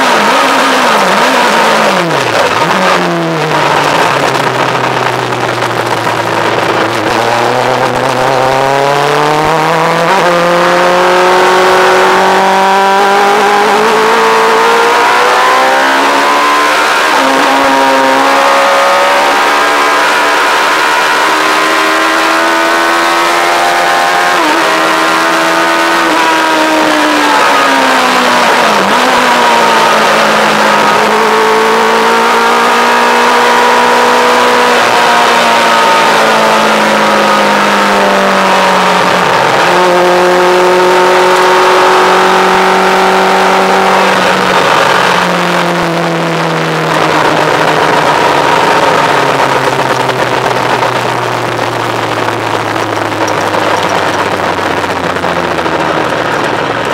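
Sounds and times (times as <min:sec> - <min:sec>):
motorcycle engine revving: 0:00.0 - 0:56.9
wind rush: 0:01.5 - 0:33.0, 0:37.6 - 0:56.9.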